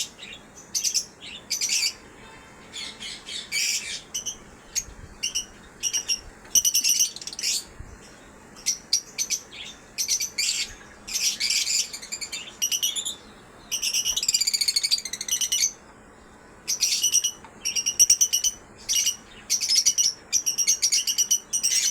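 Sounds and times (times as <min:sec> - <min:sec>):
pet birds chirping: 0:00.0 - 0:21.9.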